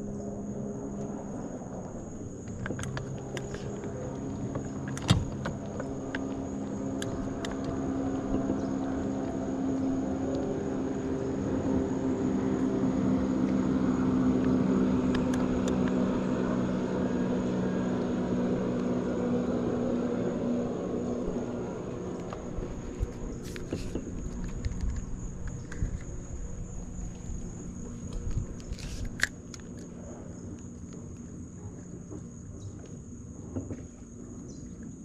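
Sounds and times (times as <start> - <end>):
passing engine drone: 0.0 - 35.0.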